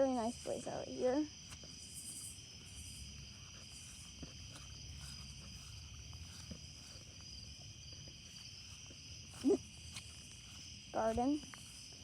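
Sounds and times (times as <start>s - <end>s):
crickets and night insects: 0.0s - 12.0s.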